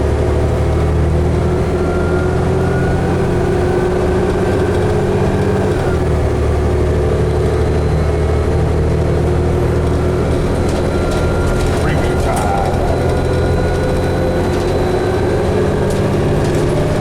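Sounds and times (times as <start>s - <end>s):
bus engine drone: 0.0s - 17.0s
bus whine: 0.0s - 17.0s.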